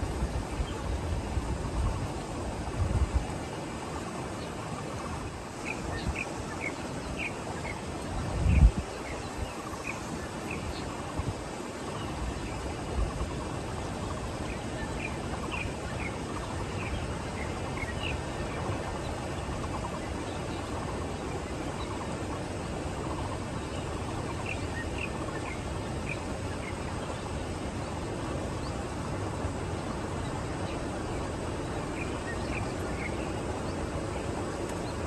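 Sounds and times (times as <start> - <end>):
low rushing wind: 0.0 - 35.0
small birds chirping: 3.1 - 35.0.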